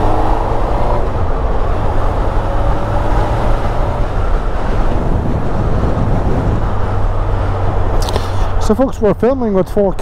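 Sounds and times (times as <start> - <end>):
wind rumble on camera: 0.0 - 10.0.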